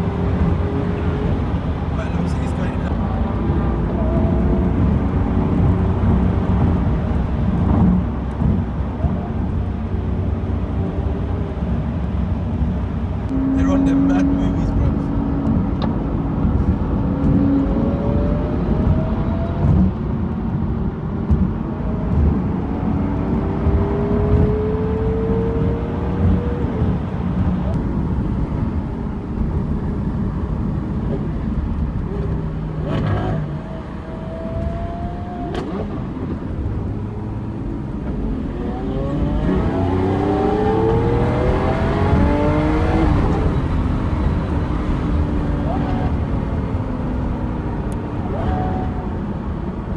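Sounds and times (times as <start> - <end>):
sports car engine accelerating: 0.0 - 49.9.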